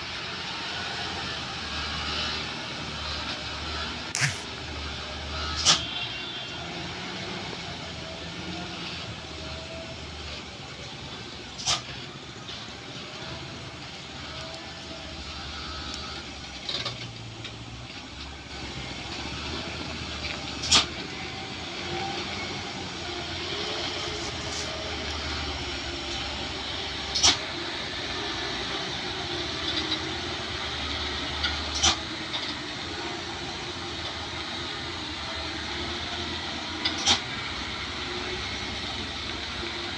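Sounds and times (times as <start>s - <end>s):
truck engine running: 7.0s - 39.9s.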